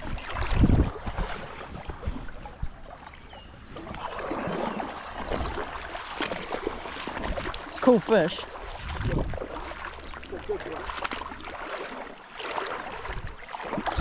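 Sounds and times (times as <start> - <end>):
wind rumbling on microphone: 0.0 - 7.8, 8.5 - 11.6, 12.8 - 14.0
river water splashing: 0.0 - 14.0.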